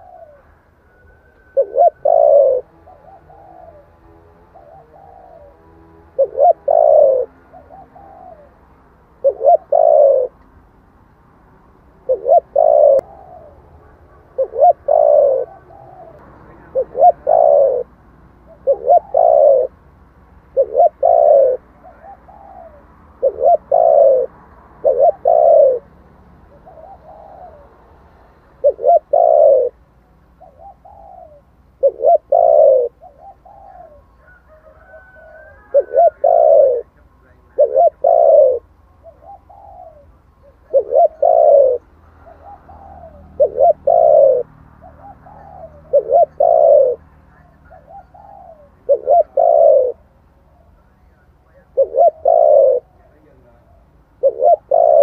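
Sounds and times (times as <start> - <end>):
dove cooing: 0.0 - 10.4, 12.0 - 19.8, 20.5 - 55.0.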